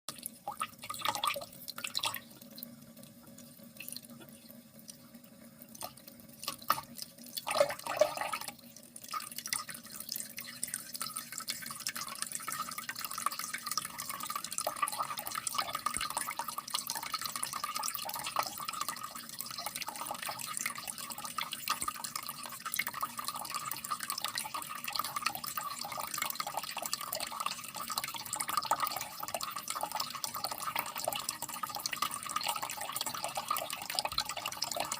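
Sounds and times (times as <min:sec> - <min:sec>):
water splashing and trickling: 0:00.1 - 0:34.9.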